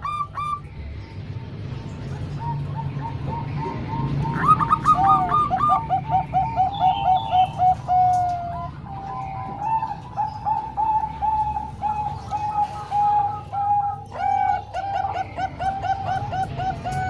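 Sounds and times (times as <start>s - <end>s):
doves cooing: 0.0s - 0.7s, 2.1s - 17.0s.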